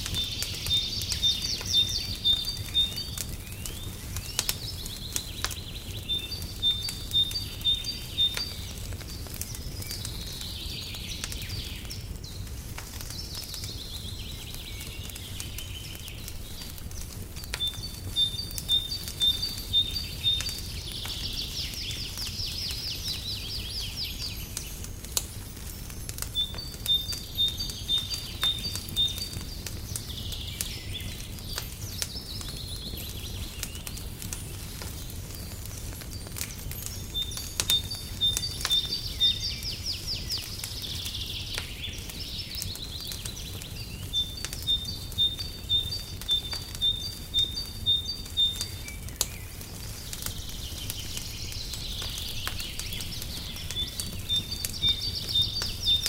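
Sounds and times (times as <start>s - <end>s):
songbird singing: 0.0s - 56.0s
wood fire crackling: 0.0s - 56.0s.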